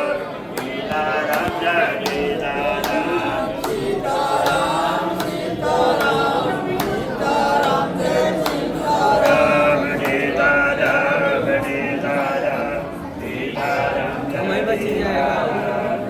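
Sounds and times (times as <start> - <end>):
group chanting together: 0.0 - 16.0.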